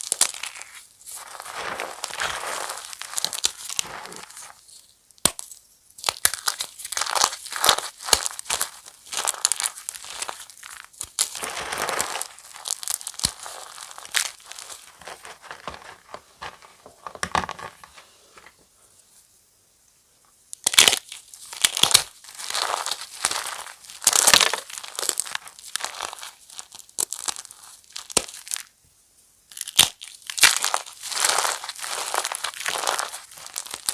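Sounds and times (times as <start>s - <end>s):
chalk crushing crunches: 0.0s - 18.0s, 20.6s - 28.7s, 29.5s - 33.9s.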